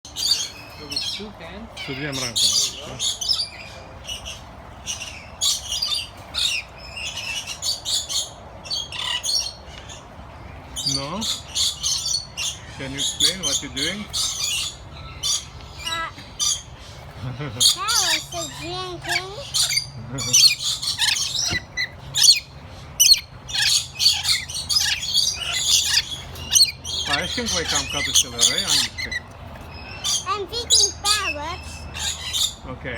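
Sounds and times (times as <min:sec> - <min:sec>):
parrots chirping and squawking: 0:00.1 - 0:32.8.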